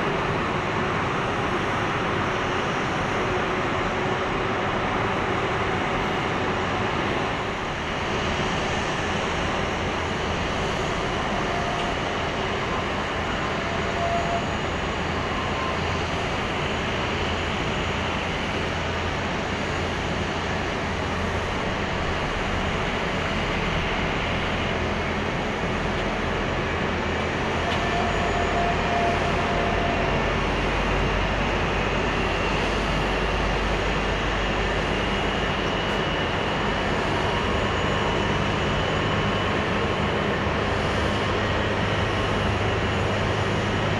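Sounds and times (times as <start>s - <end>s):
jet aircraft rumble and whine: 0.0s - 43.9s
tow tug engine: 0.0s - 43.9s.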